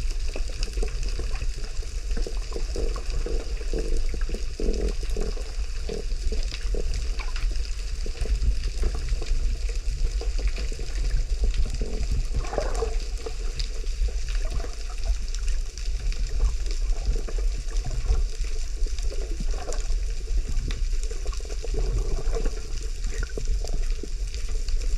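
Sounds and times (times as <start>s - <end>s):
ocean water churning and sloshing: 0.0s - 24.9s.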